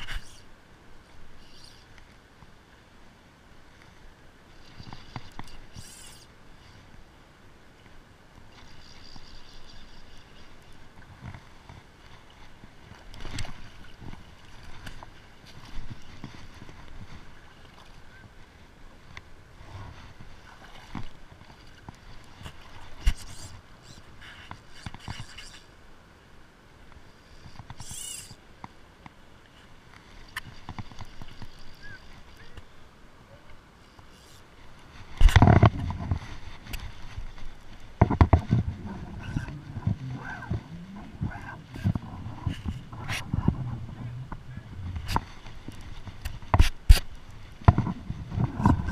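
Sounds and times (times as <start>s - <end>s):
fishing line and reel: 0.0s - 25.8s, 26.8s - 28.8s, 29.5s - 48.9s.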